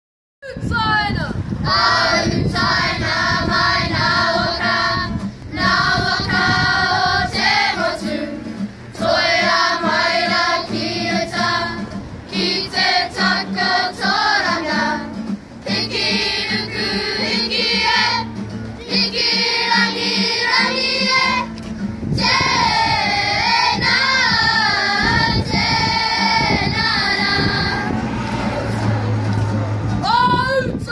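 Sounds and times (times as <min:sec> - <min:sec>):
children singing in unison: 0:01.7 - 0:29.6.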